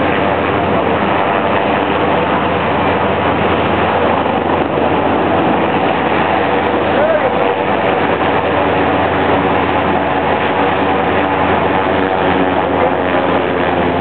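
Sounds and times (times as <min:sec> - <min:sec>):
boat engines droning: 0:00.0 - 0:14.0
rushing water: 0:00.0 - 0:14.0.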